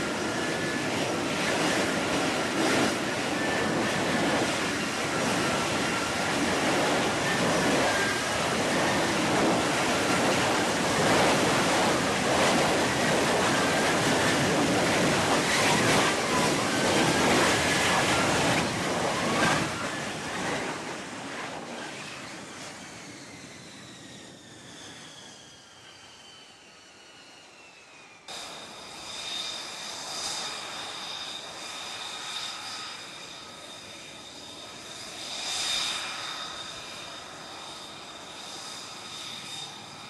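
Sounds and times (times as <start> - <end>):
high jet whine: 0.0 - 40.0
jet engine roar: 0.0 - 40.0.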